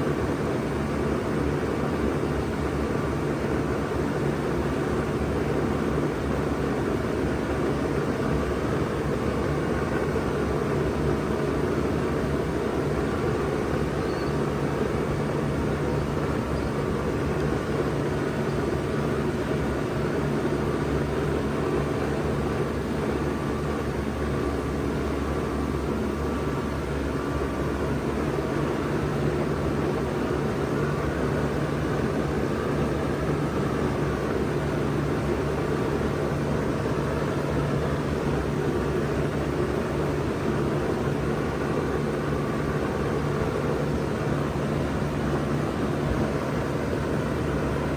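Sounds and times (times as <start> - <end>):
heat pump humming: 0.0 - 47.9.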